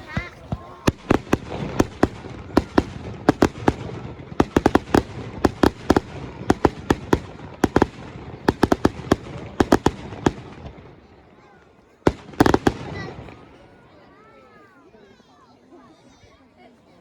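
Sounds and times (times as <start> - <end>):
fireworks exploding with sharp bangs: 0.0 - 13.9.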